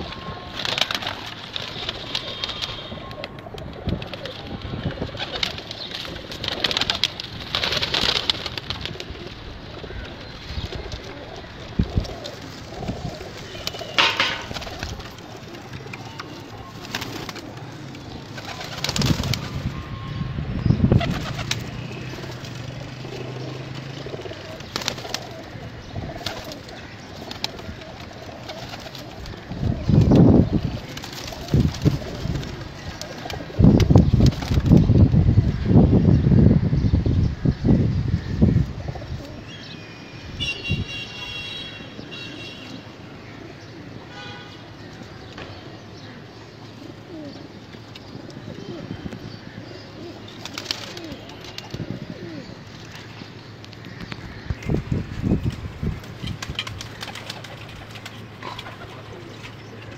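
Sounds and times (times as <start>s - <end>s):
pigeons cooing: 0.0s - 34.7s, 38.2s - 39.7s, 44.7s - 53.2s, 53.9s - 59.9s.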